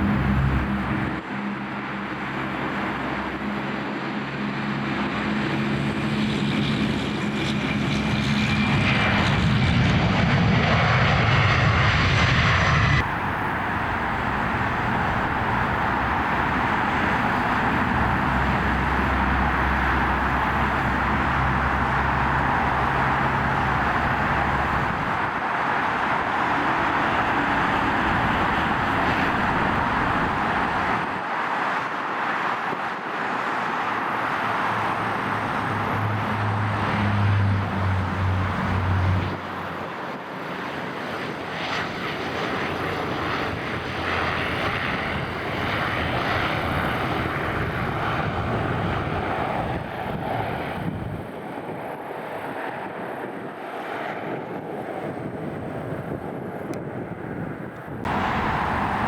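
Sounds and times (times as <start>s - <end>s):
jet engines on departure: 0.0s - 59.0s
turboprop engines droning: 0.0s - 59.0s.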